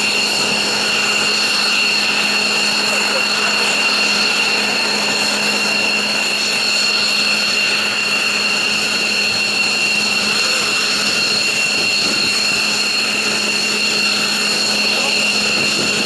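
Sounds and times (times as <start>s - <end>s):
jet turbine whine: 0.0s - 16.0s.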